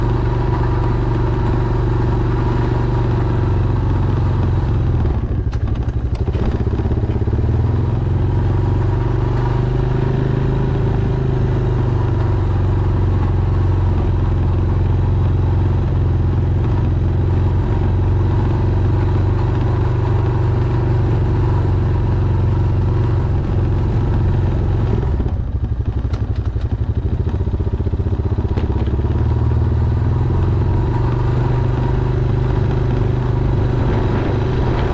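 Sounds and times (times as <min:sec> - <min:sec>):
atv engine running under load: 0:00.0 - 0:34.9.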